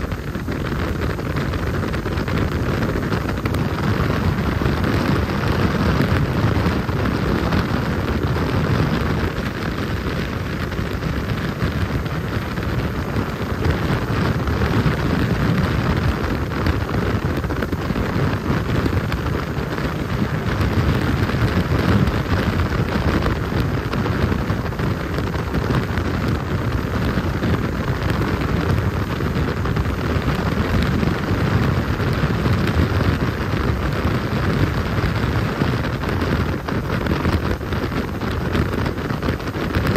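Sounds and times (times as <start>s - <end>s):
jet boat engine and water rush: 0.0s - 39.9s.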